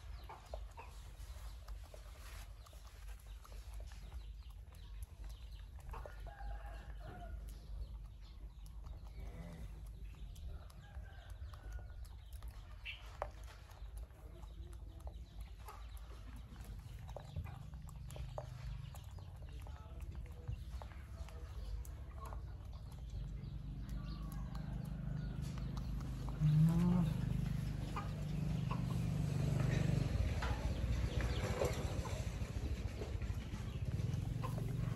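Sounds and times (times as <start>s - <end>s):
chickens clucking: 0.0s - 34.9s
low steady rumble: 0.0s - 34.9s.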